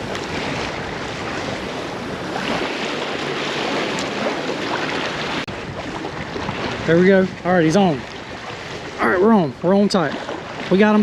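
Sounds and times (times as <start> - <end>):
waves washing: 0.0 - 11.0
wind on microphone: 0.0 - 11.0.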